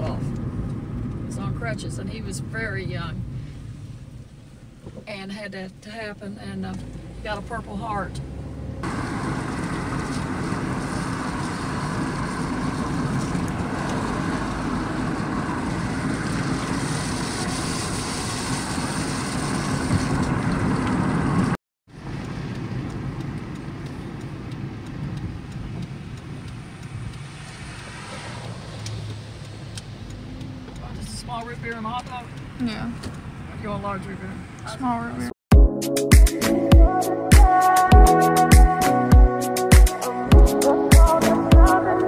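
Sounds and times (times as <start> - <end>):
car road and engine noise: 0.0 - 35.4, 36.0 - 42.0.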